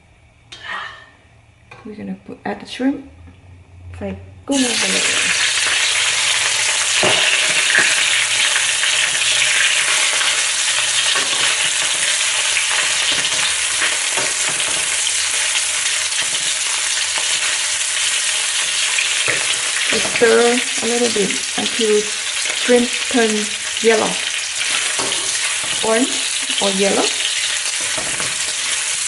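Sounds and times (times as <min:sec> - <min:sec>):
shrimp sizzling in oil: 0:04.5 - 0:29.0.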